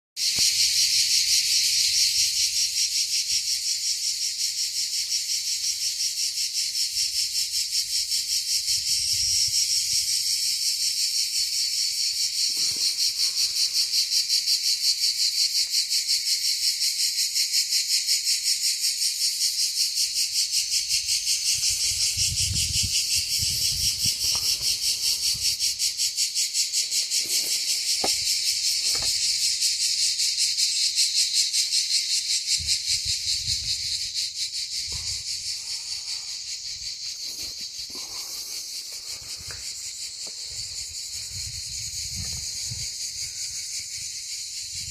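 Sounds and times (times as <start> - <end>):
cicadas buzzing: 0.2 - 44.9.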